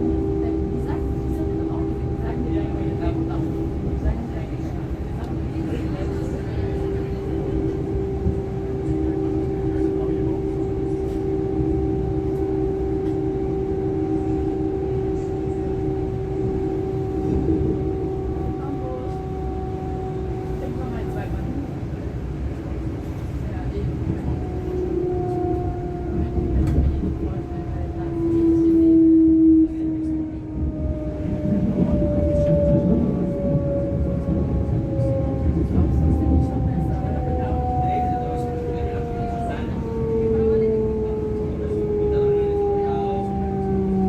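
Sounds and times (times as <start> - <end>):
train rumble from inside: 0.0 - 44.0.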